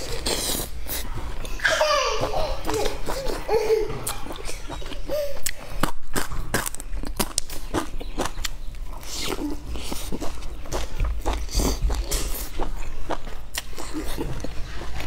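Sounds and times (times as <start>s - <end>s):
person chewing crunchy food: 0.0s - 1.6s, 2.2s - 15.0s.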